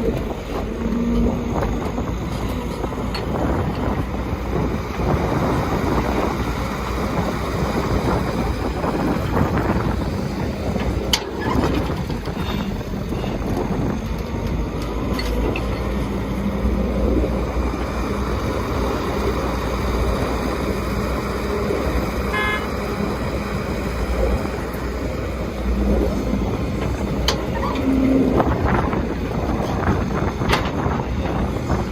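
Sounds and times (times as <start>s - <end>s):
diesel construction machinery rumbling: 0.0s - 31.9s.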